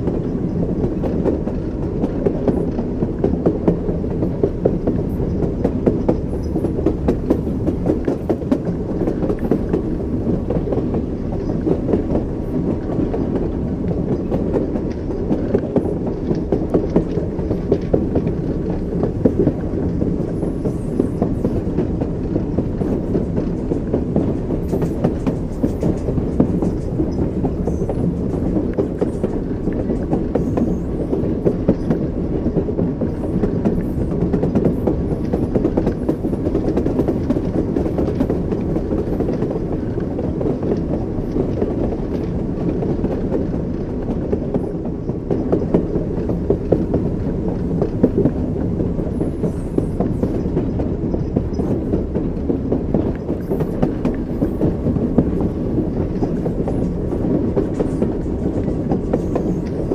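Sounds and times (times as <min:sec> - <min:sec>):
railway carriage rumble: 0:00.0 - 0:59.9
train wheels clicking over rail joints: 0:00.0 - 0:59.9.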